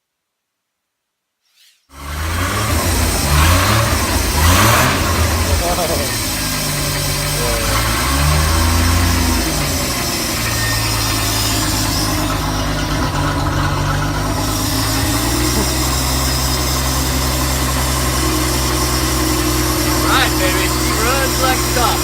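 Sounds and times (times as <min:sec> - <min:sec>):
boat engine idling: 0:02.1 - 0:22.0.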